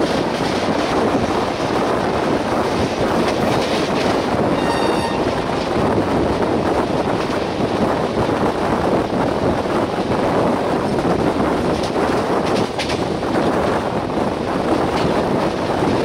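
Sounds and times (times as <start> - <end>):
train clattering: 0.0 - 16.0
train wheels rumbling on track: 0.0 - 16.0
wind rushing over microphone: 0.0 - 16.0.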